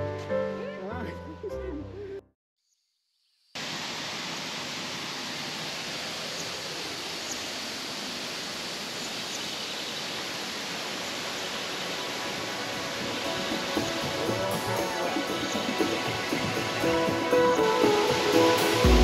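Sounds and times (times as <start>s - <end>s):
waterfall and stream rushing: 3.6s - 19.0s.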